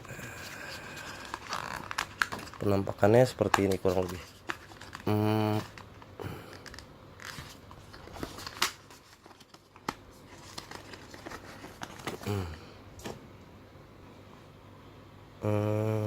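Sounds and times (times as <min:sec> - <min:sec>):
earphones and packaging handled: 0:00.0 - 0:13.2.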